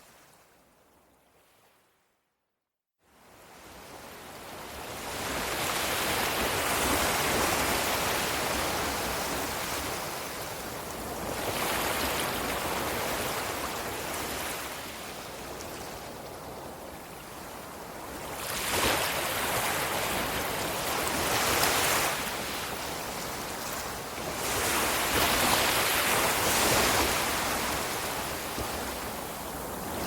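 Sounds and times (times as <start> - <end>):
ocean waves washing onto shore: 3.2 - 30.0.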